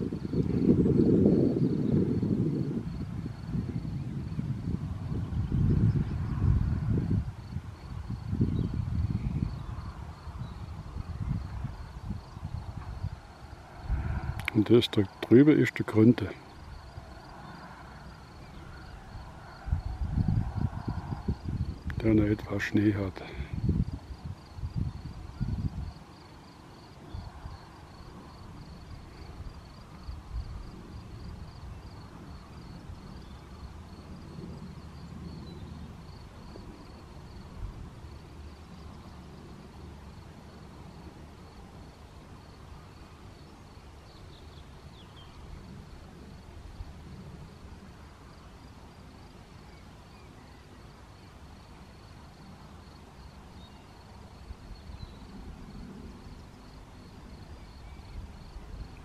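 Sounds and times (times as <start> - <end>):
wind rumble on microphone: 0.0 - 43.1, 43.8 - 50.4, 51.8 - 59.0
cricket chirping: 0.0 - 59.0.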